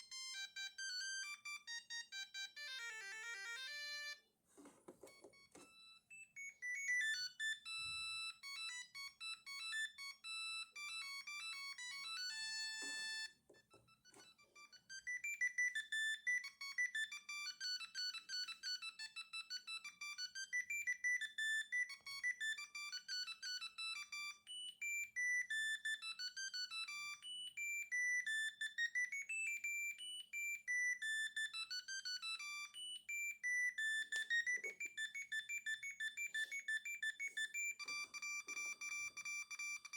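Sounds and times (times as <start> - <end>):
phone ringtone tune: 0.0 - 4.2, 5.0 - 39.9.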